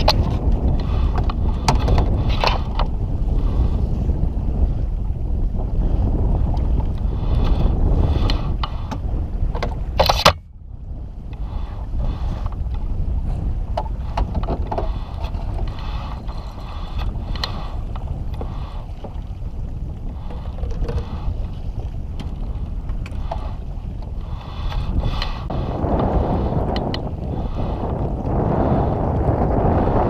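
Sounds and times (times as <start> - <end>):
wind rushing across microphone: 0.0 - 30.0.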